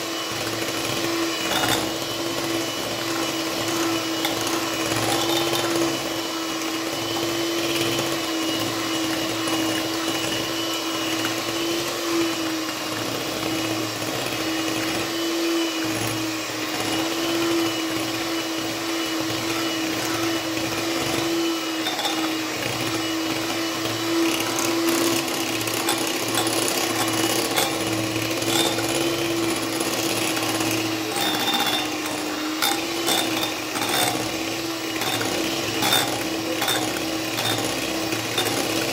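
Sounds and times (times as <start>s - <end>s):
electric hand mixer whining: 0.0s - 38.9s.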